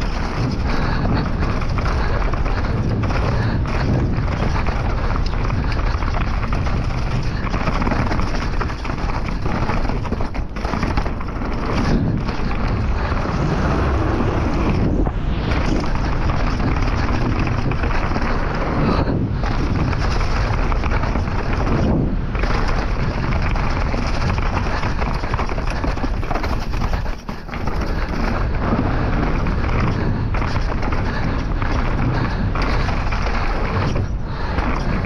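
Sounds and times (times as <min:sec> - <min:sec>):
tyres rolling over dirt: 0:00.0 - 0:35.0
wind buffeting microphone: 0:00.0 - 0:35.0.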